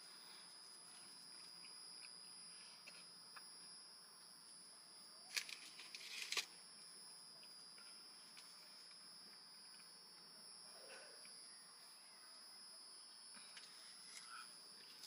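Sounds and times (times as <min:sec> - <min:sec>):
faint steady high tone: 0:00.0 - 0:15.0.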